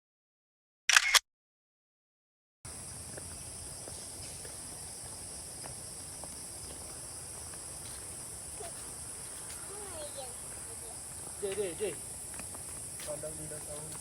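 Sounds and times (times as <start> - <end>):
high-pitched insect chorus: 2.7 - 14.0.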